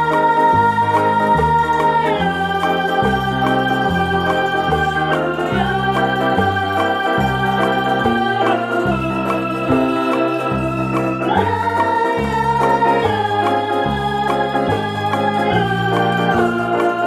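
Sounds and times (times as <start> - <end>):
electronic organ music: 0.0 - 17.0.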